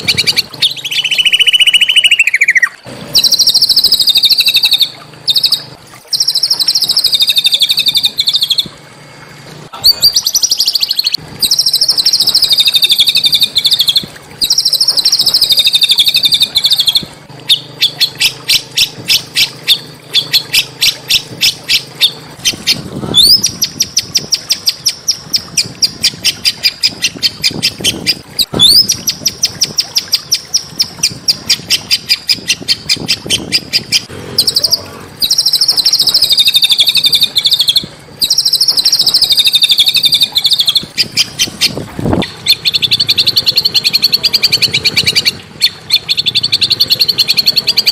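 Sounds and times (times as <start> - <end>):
songbird trilling and chirping: 0.0 - 8.7, 9.8 - 29.3, 30.5 - 47.9.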